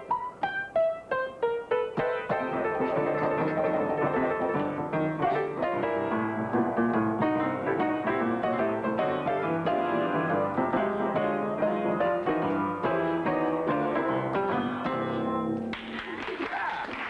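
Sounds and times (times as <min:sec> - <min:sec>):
out-of-tune upright piano: 0:00.0 - 0:15.7.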